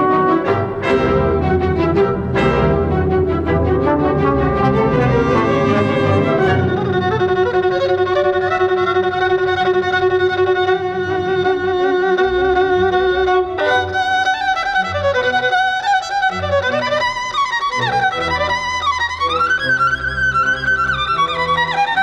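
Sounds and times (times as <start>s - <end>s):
low accompaniment: 0.0s - 22.0s
violin playing slow classical music: 0.0s - 22.0s.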